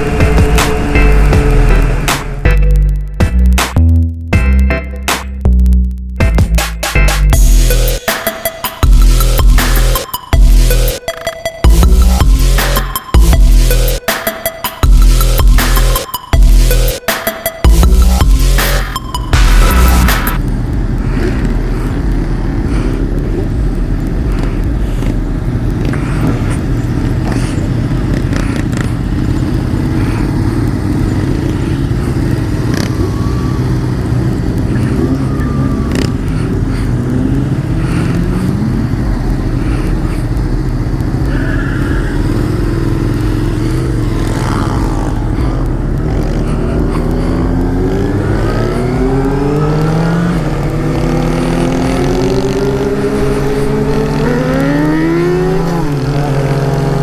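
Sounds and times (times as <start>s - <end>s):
motorcycle engine running: 0.0s - 4.7s, 6.2s - 8.1s, 17.6s - 57.0s.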